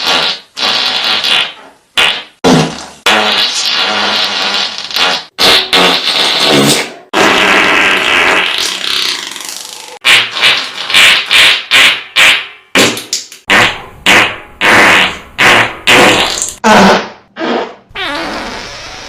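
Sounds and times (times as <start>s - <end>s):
fart sound effect: 0.0s - 12.6s, 13.5s - 19.0s.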